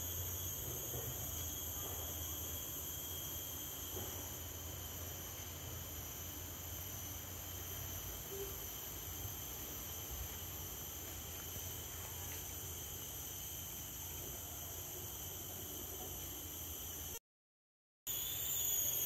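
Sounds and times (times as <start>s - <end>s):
insects droning shrilly: 0.0s - 17.2s, 18.1s - 19.0s.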